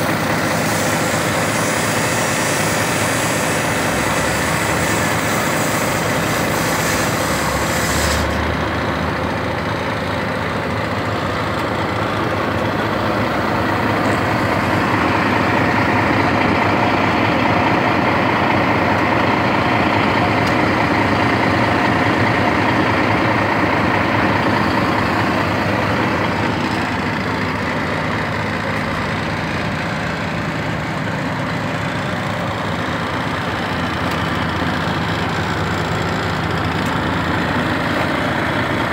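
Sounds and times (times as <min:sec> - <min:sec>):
diesel truck idling: 0:00.0 - 0:38.9.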